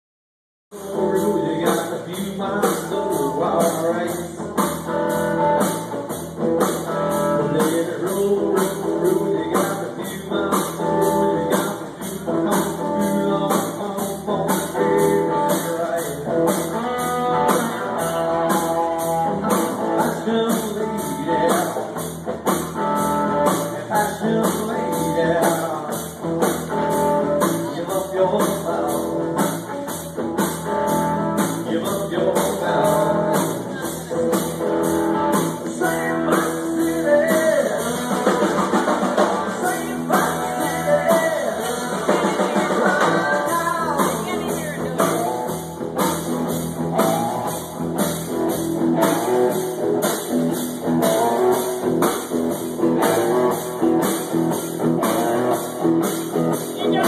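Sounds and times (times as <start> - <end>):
rock band playing: 0.7 - 57.0.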